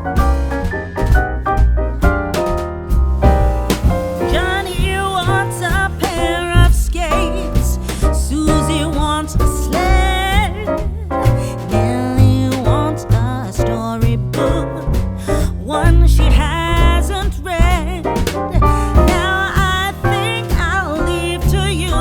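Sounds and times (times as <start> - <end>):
song with piano and singing: 3.7 - 22.0.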